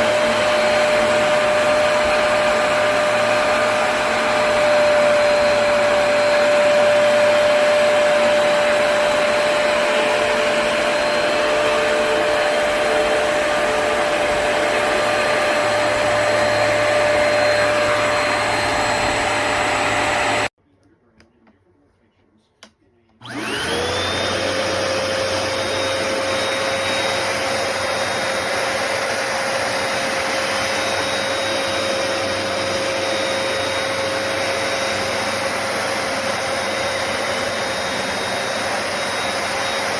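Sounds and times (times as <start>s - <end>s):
carpet cleaner motor whine: 0.0s - 20.5s, 23.2s - 39.9s.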